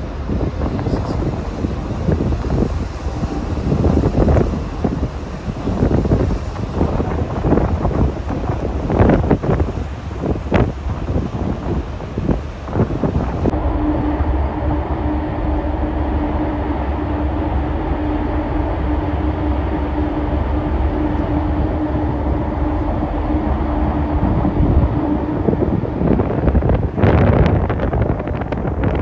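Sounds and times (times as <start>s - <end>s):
ferry engines droning: 0.0s - 29.0s.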